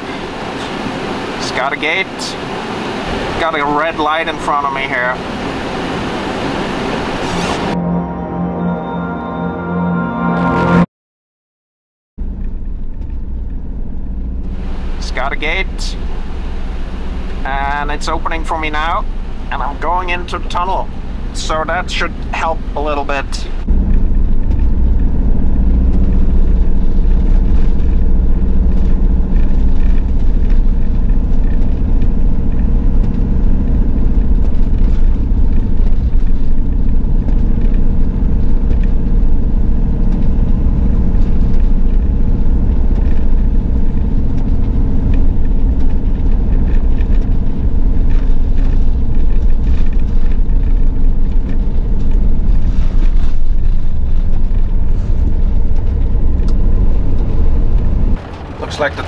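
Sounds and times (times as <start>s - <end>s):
van engine and tyre rumble: 0.0s - 7.8s, 12.2s - 59.0s.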